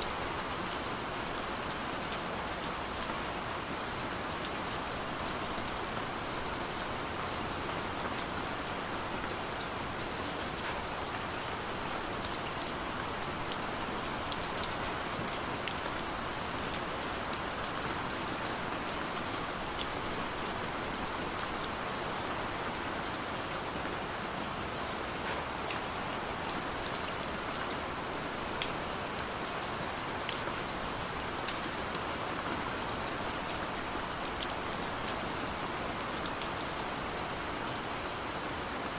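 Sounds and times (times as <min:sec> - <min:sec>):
gentle rain: 0:00.0 - 0:38.9.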